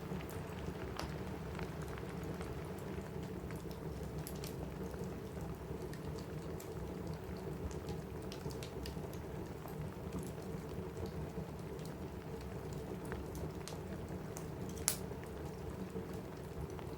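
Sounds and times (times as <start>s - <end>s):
rain on a roof: 0.0s - 16.9s
wood fire crackling: 0.0s - 16.9s.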